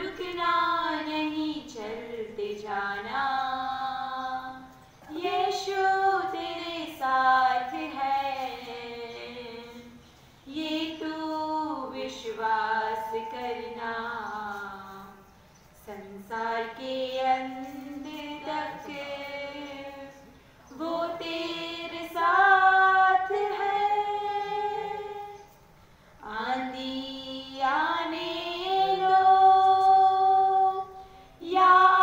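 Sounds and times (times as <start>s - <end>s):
woman and girl singing: 0.0s - 25.6s, 26.2s - 32.0s.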